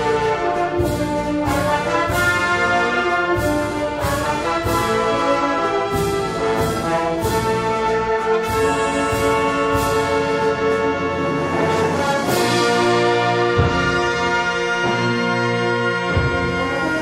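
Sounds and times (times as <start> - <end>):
held brass chords: 0.0 - 17.0
wind band playing: 0.0 - 17.0.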